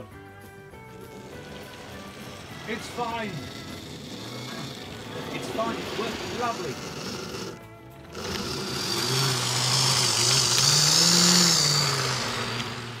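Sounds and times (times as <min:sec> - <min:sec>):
model train motor humming: 0:00.0 - 0:13.0
wagon wheels rattling on rails: 0:00.0 - 0:13.0.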